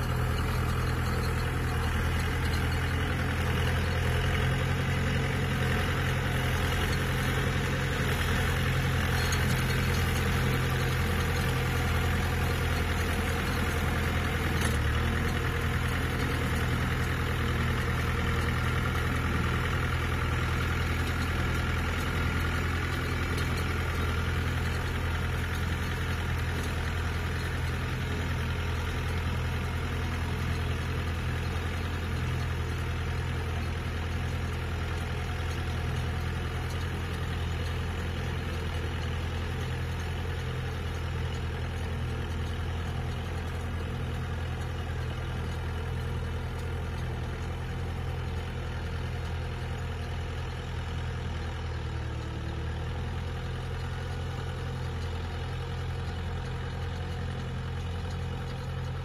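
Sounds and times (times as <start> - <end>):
tractor engine humming: 0.0 - 59.0.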